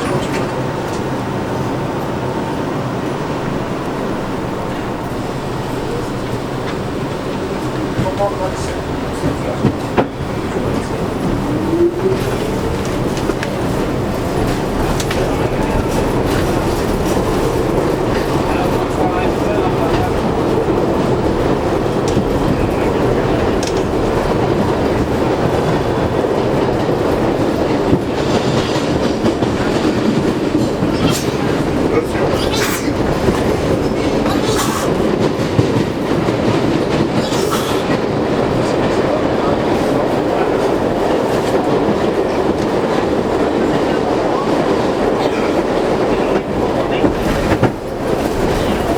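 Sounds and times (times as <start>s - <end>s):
subway car rumbling: 0.0s - 48.9s
wheels clattering on rails: 0.0s - 48.9s.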